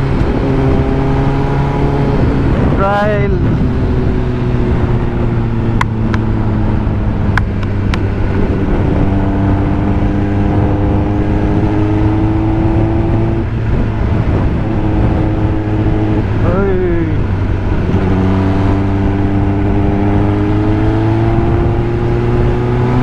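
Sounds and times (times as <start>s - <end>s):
motorcycle engine cruising: 0.0s - 23.0s
wind rush: 0.0s - 23.0s.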